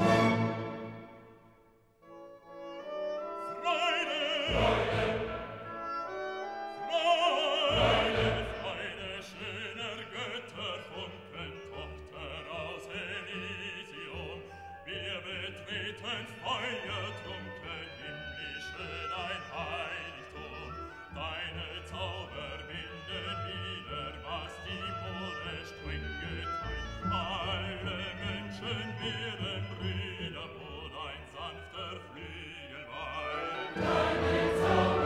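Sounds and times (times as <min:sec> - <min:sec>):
orchestral accompaniment: 0:00.0 - 0:14.3, 0:15.0 - 0:35.0
operatic singer with vibrato: 0:03.4 - 0:05.9, 0:06.7 - 0:35.0.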